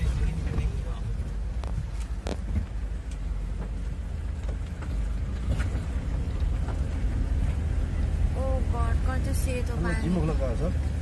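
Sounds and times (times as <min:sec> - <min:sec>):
vehicle rumble on road: 0:00.0 - 0:11.0.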